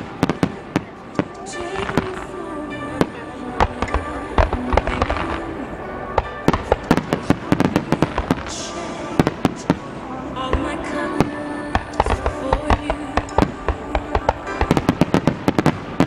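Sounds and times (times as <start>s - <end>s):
fireworks bangs: 0.0s - 16.0s
music playing: 0.0s - 16.0s.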